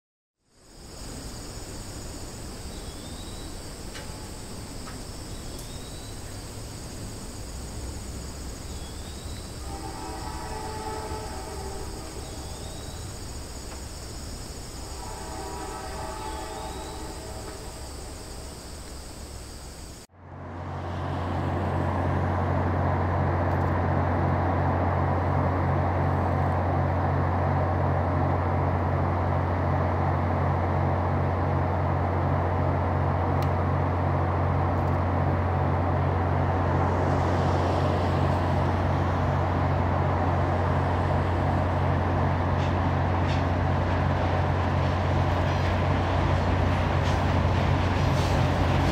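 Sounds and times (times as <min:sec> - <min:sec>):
diesel locomotive engine drone: 0:00.4 - 0:48.9.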